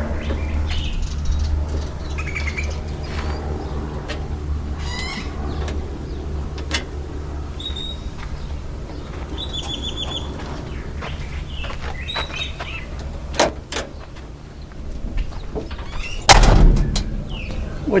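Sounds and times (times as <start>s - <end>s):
birds chirping: 0.0s - 18.0s
low background hum: 0.0s - 18.0s.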